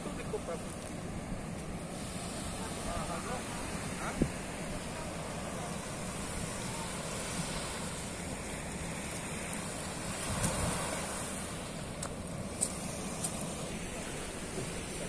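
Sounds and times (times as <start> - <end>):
surf breaking on beach: 1.8 - 15.0.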